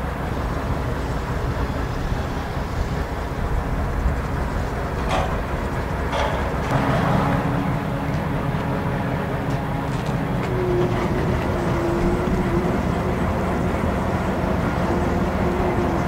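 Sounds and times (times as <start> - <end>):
crane engine running: 0.0 - 16.0.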